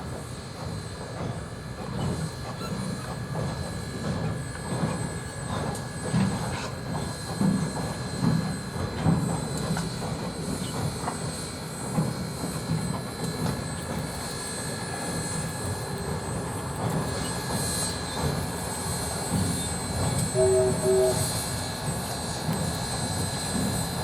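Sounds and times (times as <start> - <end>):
train rolling past: 0.0 - 24.0.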